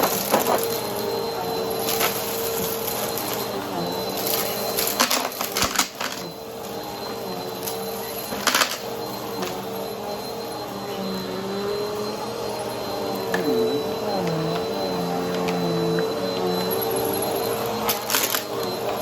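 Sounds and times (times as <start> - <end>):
vacuum cleaner motor hum: 0.0 - 19.0.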